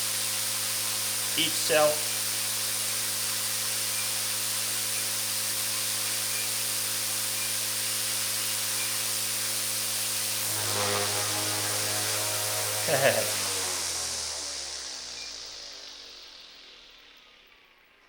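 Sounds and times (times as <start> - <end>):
rc helicopter motor and rotor: 0.0 - 18.0.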